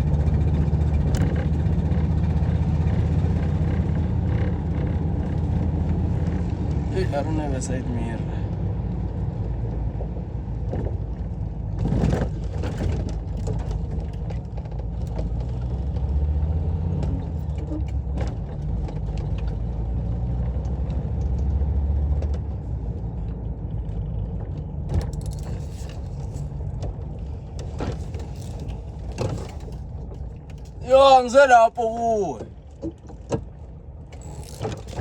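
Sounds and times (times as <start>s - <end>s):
van engine droning under load: 0.0s - 35.0s.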